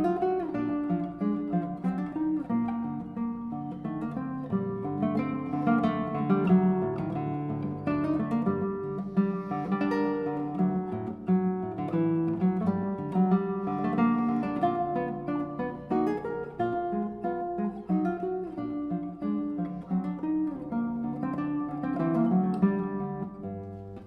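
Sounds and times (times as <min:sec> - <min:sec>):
classical guitar playing: 0:00.0 - 0:24.0.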